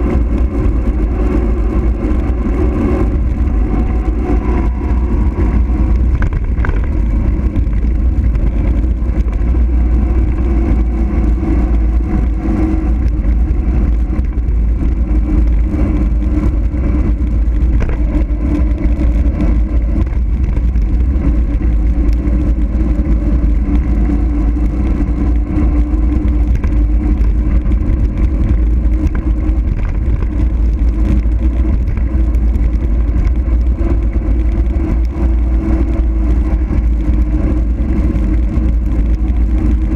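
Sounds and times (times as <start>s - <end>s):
heavy low rumble: 0.0s - 39.9s
wind rush on microphone: 0.0s - 39.9s.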